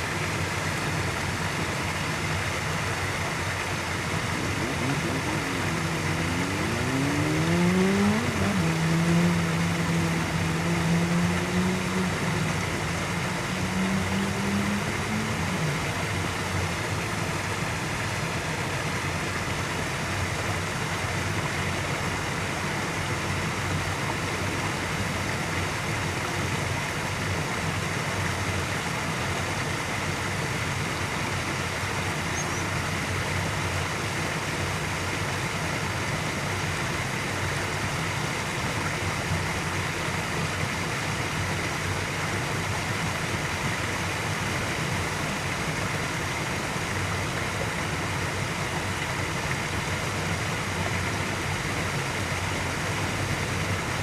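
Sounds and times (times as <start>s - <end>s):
outdoor background rumble and hiss: 0.0s - 54.0s.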